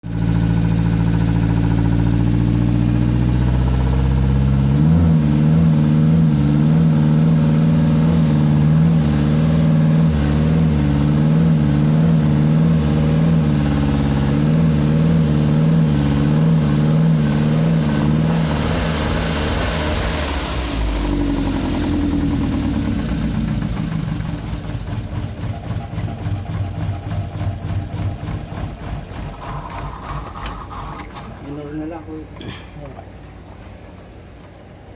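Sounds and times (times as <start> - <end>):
car engine starting and running: 0.0 - 34.9.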